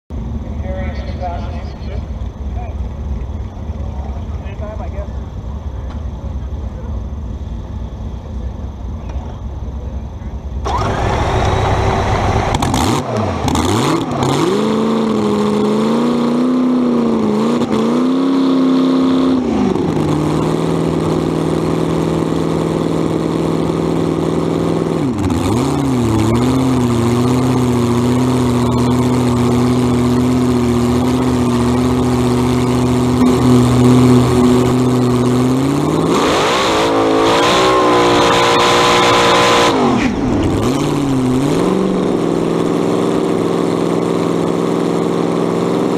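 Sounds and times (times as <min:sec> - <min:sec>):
engine idling and revving: 0:00.1 - 0:45.9.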